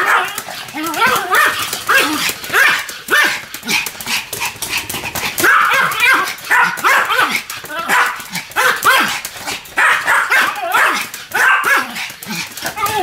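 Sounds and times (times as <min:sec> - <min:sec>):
small dogs yapping: 0:00.0 - 0:13.0.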